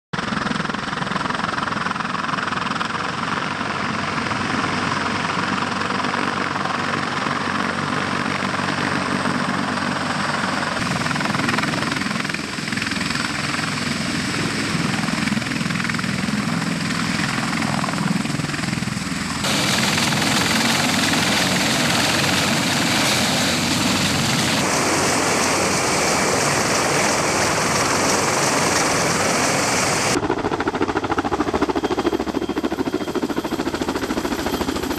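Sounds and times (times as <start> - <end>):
helicopter rotor and engines: 0.2 - 34.9.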